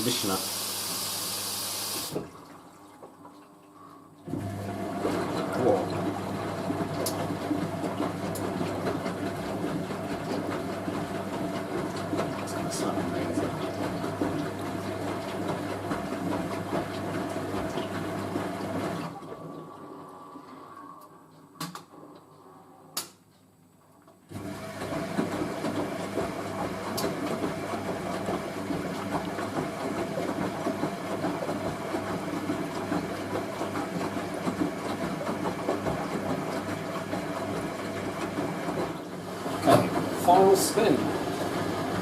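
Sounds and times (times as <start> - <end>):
washing machine motor turning drum: 0.0 - 22.4, 24.3 - 42.0.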